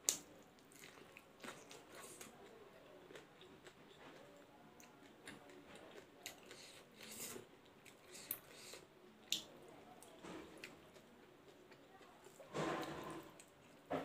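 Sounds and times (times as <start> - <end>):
soft wet chewing: 0.0 - 14.0.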